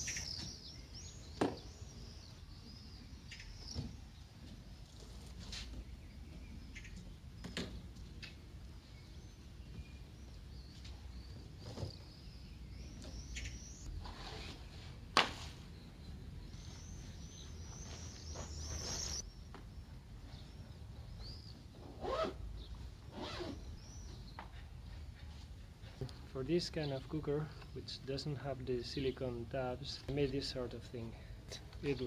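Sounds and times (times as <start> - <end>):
birds chirping: 0.0 - 5.0, 5.6 - 32.0.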